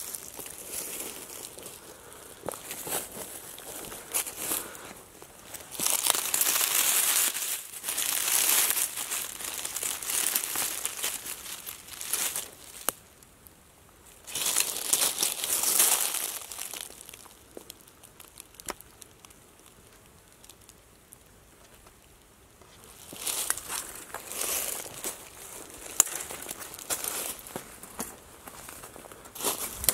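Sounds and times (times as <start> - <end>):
dry leaves and twigs crackling: 0.0 - 29.9.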